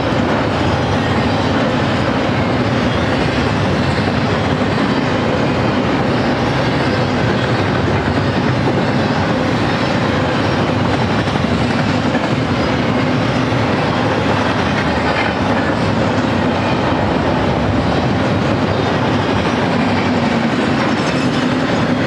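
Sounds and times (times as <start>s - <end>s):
steel train wheels on rails: 0.0s - 22.0s.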